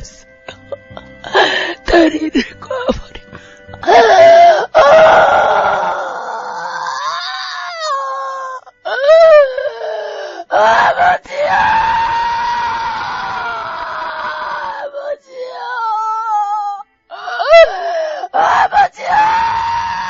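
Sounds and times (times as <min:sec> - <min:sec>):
person wailing and screaming: 0:03.8 - 0:20.0.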